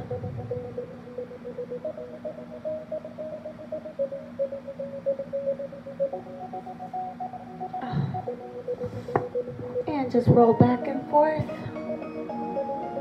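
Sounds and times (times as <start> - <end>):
soft slow background music: 0.0 - 13.0.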